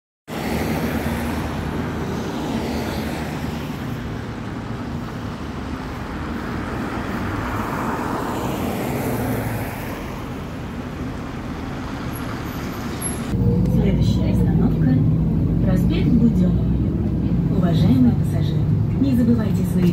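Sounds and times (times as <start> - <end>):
bus engine hum: 0.3 - 19.9
road noise: 0.3 - 19.9.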